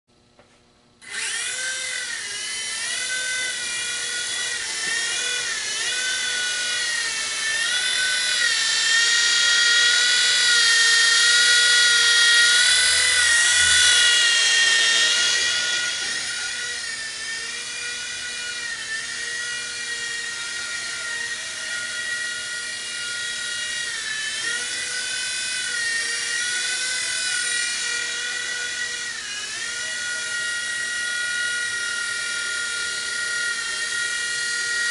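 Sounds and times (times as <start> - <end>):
toy helicopter rotor whining: 1.0 - 34.9.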